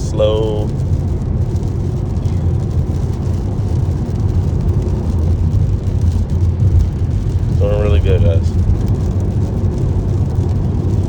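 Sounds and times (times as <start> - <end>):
heavy rain: 0.0 - 11.0
road rumble and tyre noise: 0.0 - 11.0.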